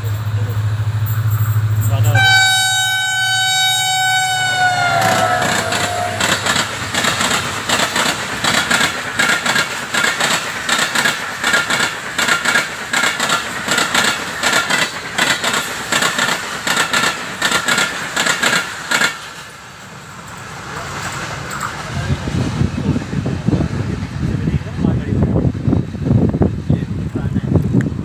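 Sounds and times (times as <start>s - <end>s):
train rushing past: 0.0s - 28.0s
train wheels clattering on rails: 4.0s - 28.0s.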